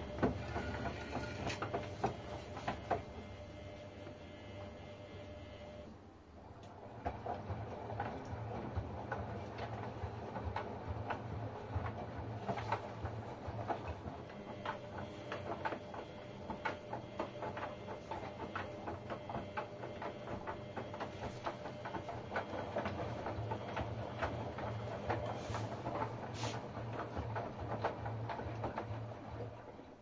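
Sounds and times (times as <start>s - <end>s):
water sloshing in washing machine: 0.0s - 3.9s, 6.7s - 30.0s.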